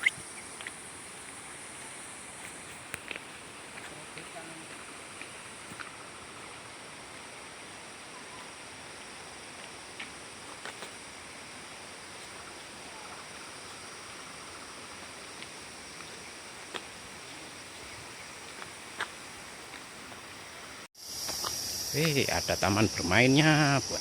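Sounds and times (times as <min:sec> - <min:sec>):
insect drone: 0:00.0 - 0:24.0.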